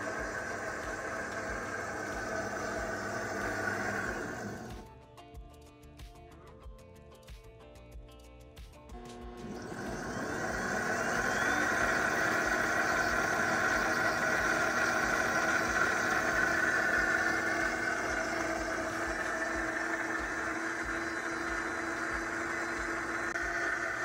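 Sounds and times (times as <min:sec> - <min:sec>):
nut milk maker motor whirring: 0:00.0 - 0:04.9, 0:09.0 - 0:24.0.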